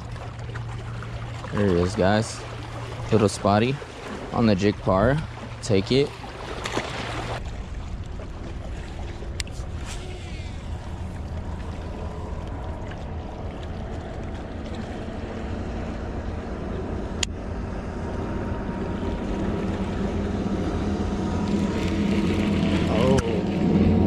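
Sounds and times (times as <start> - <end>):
motorboat engine humming: 0.0 - 24.0.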